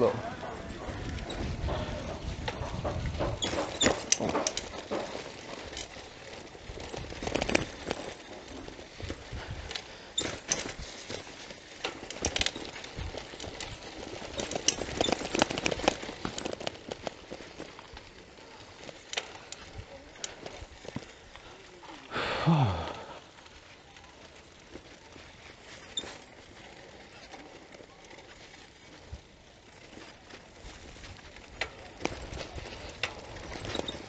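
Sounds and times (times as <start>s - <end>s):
bicycle rattling on dirt road: 0.0s - 34.0s.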